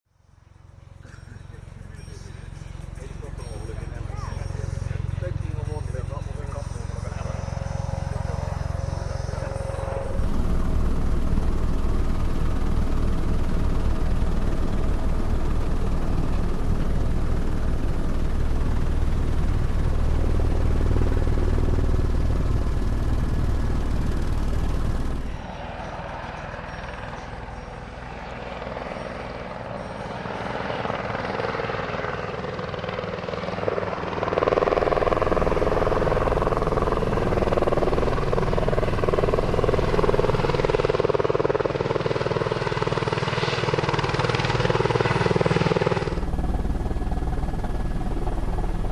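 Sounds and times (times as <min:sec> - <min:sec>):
helicopter rotor and engine: 0:00.2 - 0:48.9.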